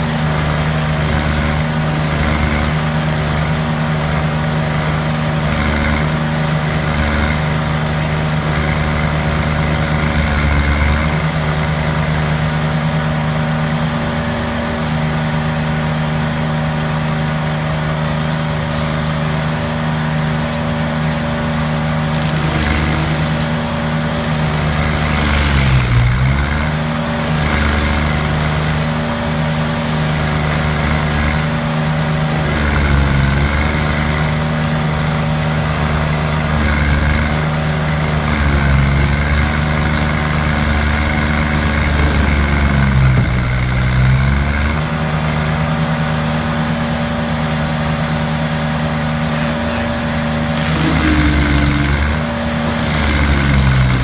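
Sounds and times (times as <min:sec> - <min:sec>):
cutter wheel grinding stump: 0:00.0 - 0:54.0
stump grinder engine running: 0:00.0 - 0:54.0.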